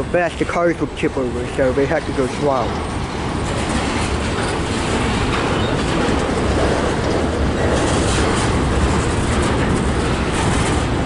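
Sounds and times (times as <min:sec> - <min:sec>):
steel wheels rumbling on rails: 0:00.0 - 0:11.0
clicking at rail joints: 0:00.2 - 0:11.0.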